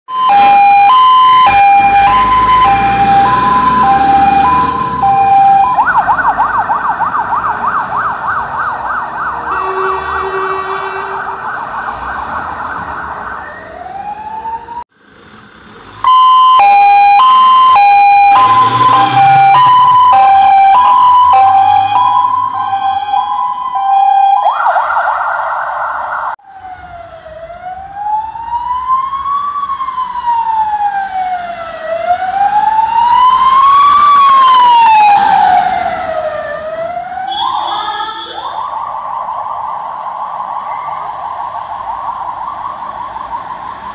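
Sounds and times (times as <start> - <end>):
ambulance siren wailing: 0.1 - 14.9, 16.0 - 43.9
fire engine sirens: 0.1 - 14.9, 15.8 - 43.9.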